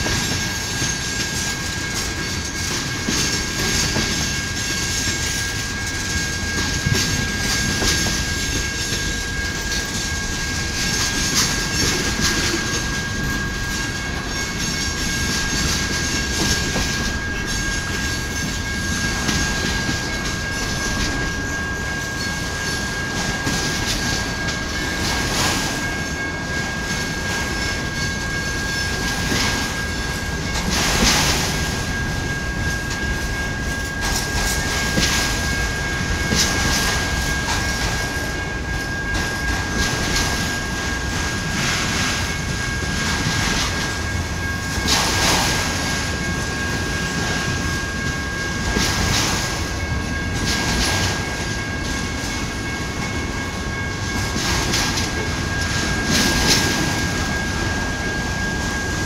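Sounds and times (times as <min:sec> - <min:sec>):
freight cars rumbling on rails: 0:00.0 - 0:59.0.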